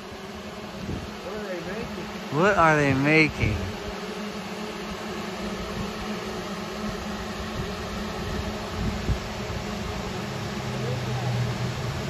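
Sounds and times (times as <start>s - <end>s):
drones buzzing overhead: 0.0s - 12.0s.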